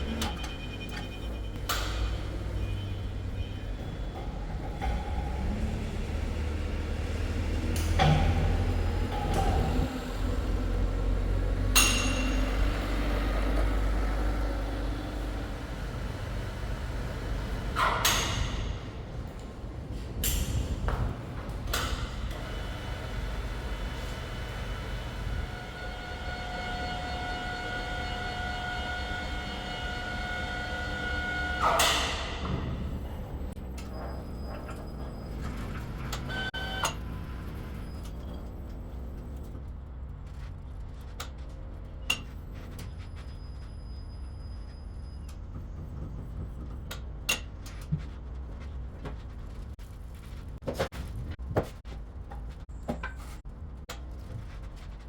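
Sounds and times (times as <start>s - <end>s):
crane engine rumble: 0.0s - 55.0s.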